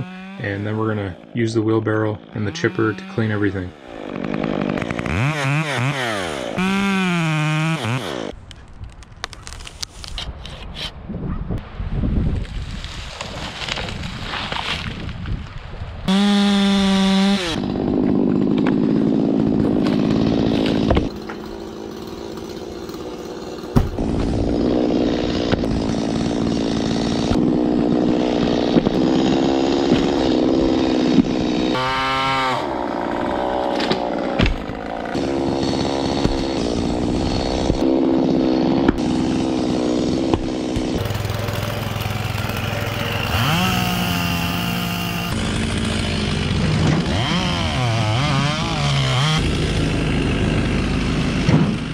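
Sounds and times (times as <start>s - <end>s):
chainsaw cutting at high speed: 0.0s - 8.4s, 16.1s - 51.9s.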